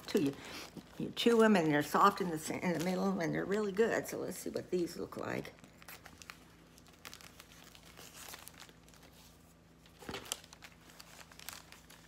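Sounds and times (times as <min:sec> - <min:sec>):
candy wrappers crinkling: 0:00.0 - 0:12.0.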